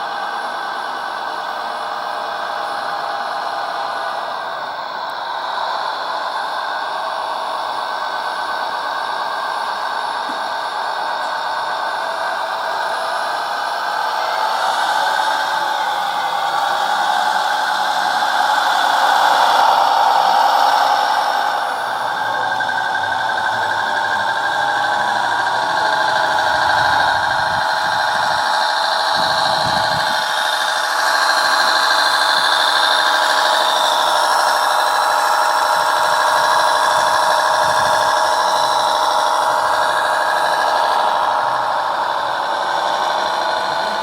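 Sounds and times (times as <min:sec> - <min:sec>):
model truck motor whine: 0:00.0 - 0:44.0.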